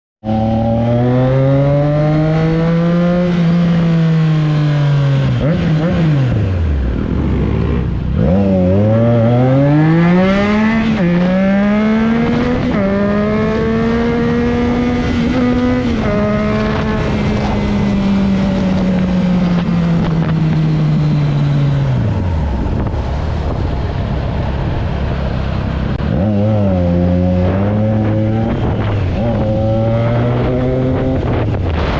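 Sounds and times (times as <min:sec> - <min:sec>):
motorcycle engine accelerating: 0:00.2 - 0:31.9.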